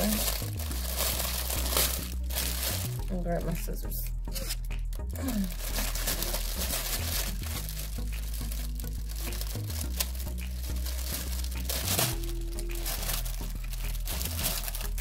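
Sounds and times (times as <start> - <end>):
plastic bag crinkling and tearing: 0.0 - 3.1, 5.2 - 15.0.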